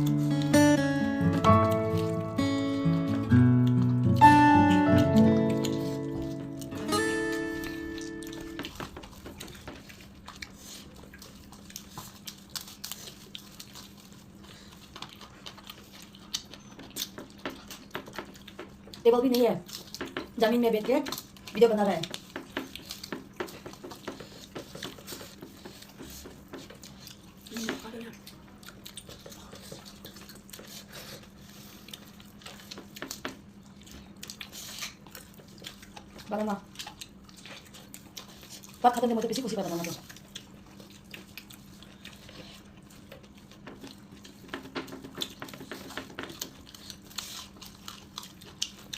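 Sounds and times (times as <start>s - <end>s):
person eating with clicks and smacks: 0.0s - 48.9s.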